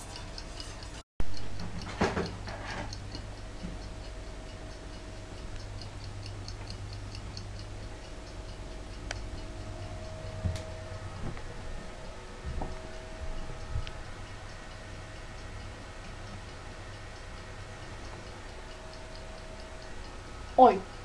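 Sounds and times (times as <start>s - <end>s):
fast mechanical ticking: 0.0s - 12.2s, 12.8s - 21.0s
low hum: 0.0s - 21.0s.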